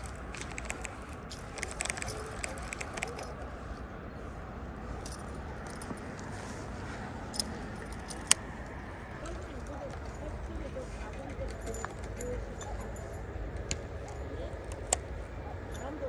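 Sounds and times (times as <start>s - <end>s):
light clicks and rattles: 0.0s - 3.5s, 5.0s - 16.0s
low background noise: 0.0s - 16.0s.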